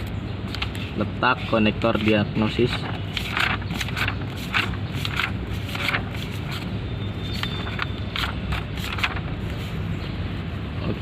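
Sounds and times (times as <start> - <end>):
paper pages rustling: 0.0 - 6.7, 7.3 - 9.9.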